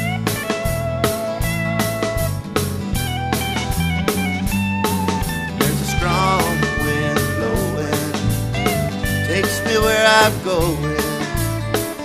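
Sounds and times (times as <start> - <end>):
bass: 0.0 - 12.0
lead guitar: 0.0 - 12.0
steady drum beat: 0.0 - 12.0.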